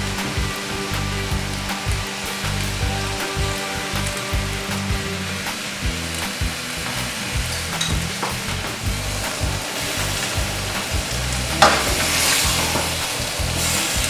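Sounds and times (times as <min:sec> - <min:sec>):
stir fry sizzling in a skillet: 0:00.0 - 0:14.0.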